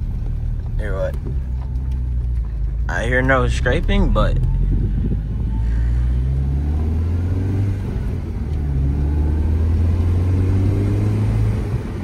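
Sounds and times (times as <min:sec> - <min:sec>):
car engine inside cabin: 0:00.0 - 0:12.0
road noise: 0:00.0 - 0:12.0.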